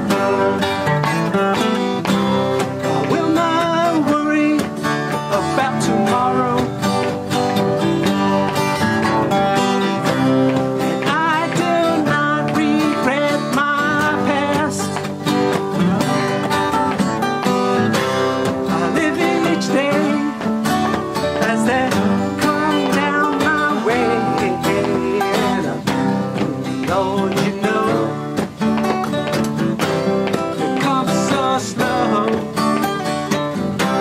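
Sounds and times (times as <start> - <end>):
acoustic guitars strumming chords: 0.0 - 34.0
picked guitar melody bending: 0.0 - 34.0.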